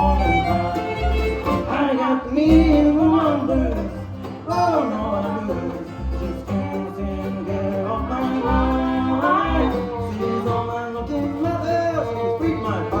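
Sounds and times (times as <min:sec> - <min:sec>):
pulsing bass line: 0:00.0 - 0:13.0
sliding lead melody: 0:00.0 - 0:13.0.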